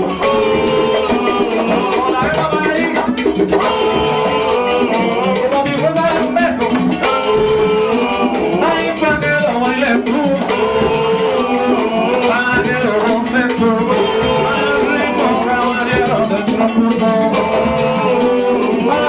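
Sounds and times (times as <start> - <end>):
congas: 0.0 - 19.0
latin band playing: 0.0 - 19.0
maracas: 0.0 - 19.0.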